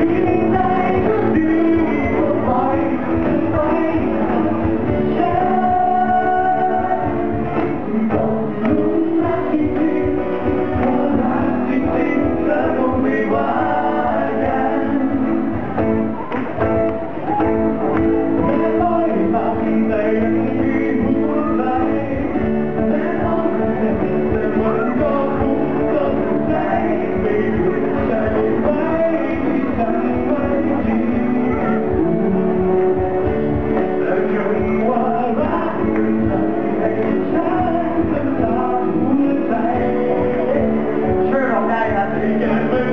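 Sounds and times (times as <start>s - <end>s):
live band playing: 0.0s - 42.9s
person singing: 0.0s - 42.9s.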